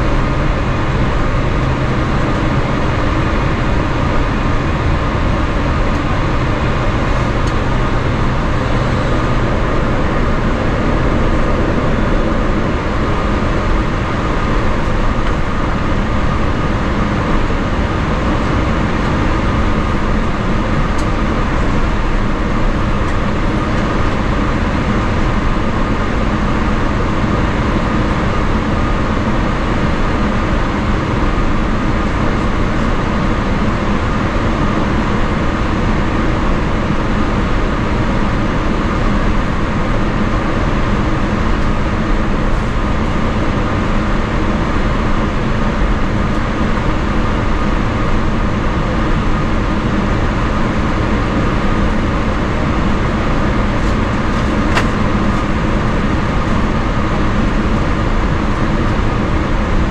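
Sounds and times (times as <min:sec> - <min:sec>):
aircraft rolling rumble: 0:00.0 - 0:59.9
jet engines droning: 0:00.0 - 0:59.9.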